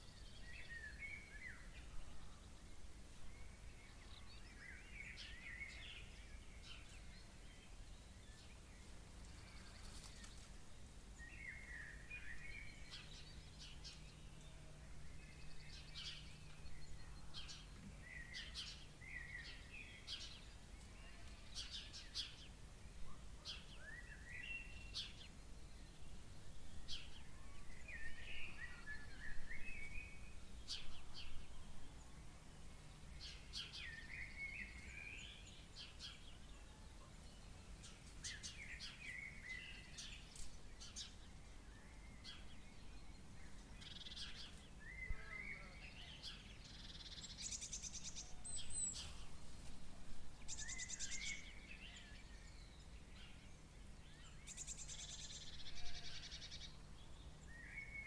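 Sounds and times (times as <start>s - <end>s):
birds chirping and warbling: 0.0s - 58.0s
faint steady background noise: 0.0s - 58.0s.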